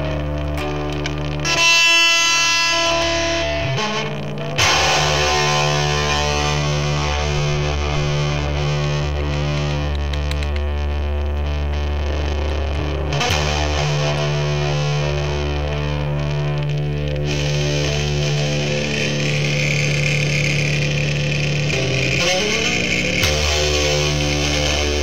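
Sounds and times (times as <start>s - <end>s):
distorted electric guitar chords: 0.0s - 25.0s.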